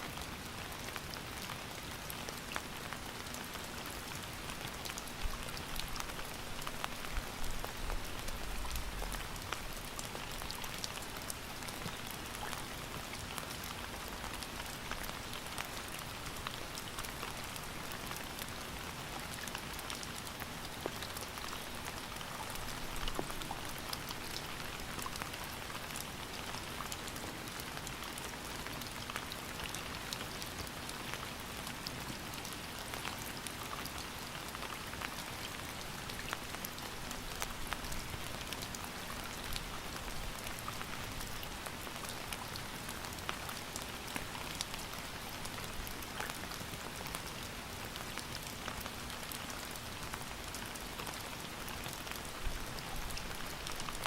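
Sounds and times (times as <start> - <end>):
raindrops pattering on a surface: 0.0 - 54.0
steady rain falling: 0.0 - 54.0.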